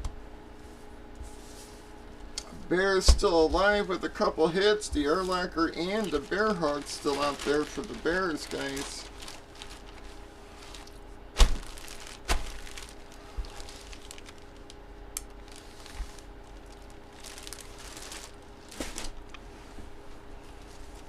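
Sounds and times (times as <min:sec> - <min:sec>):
packaging crinkling and rustling: 0:03.3 - 0:21.0.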